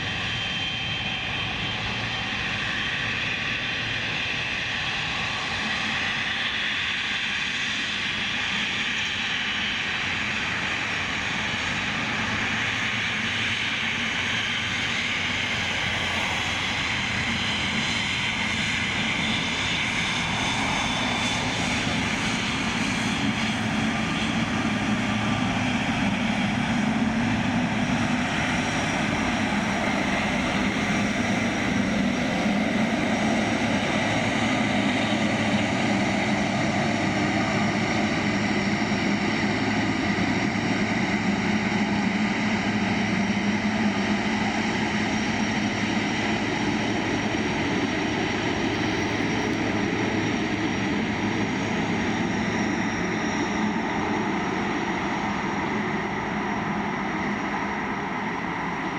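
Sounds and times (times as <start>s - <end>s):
jet engines roaring: 0.0s - 58.9s.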